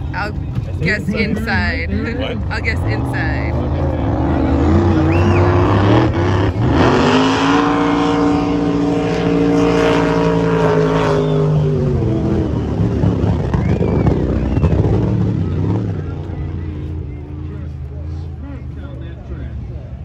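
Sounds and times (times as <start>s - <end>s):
race boat engine roaring: 0.0s - 20.0s.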